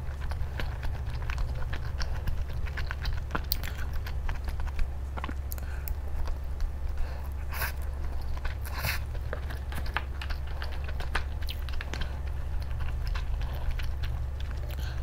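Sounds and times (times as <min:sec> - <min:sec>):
noodles slurped and chewed: 0:00.0 - 0:15.0
steady low hum: 0:00.0 - 0:15.0.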